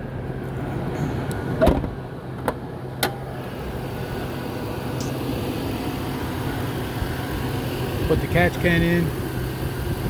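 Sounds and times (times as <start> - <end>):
engine idling hum: 0.0 - 10.0.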